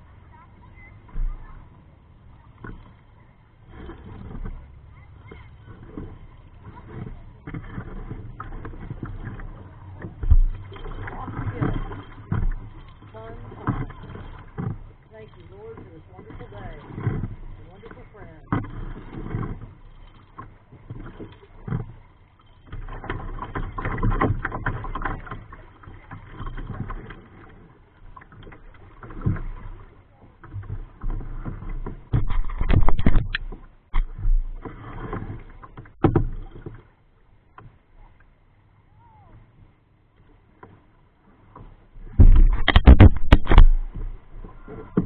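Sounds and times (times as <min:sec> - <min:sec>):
water sloshing against kayak hull: 0:00.0 - 0:45.0.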